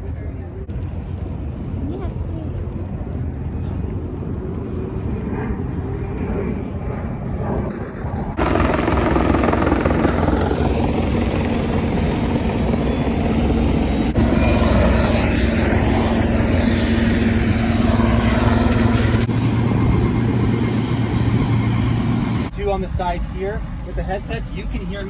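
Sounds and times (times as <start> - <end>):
helicopter rotor and engine: 0.1 - 25.0.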